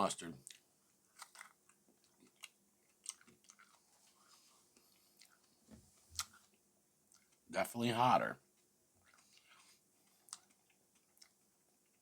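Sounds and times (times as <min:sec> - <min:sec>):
chewing with soft crunches: 0:00.4 - 0:07.5, 0:08.6 - 0:12.0.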